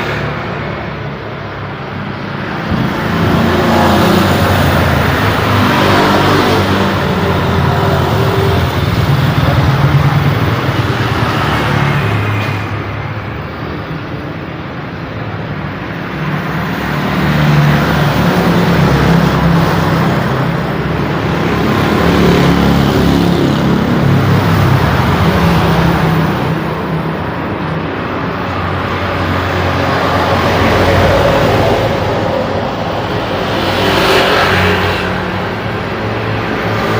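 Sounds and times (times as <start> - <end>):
road traffic roar: 0.0 - 36.9.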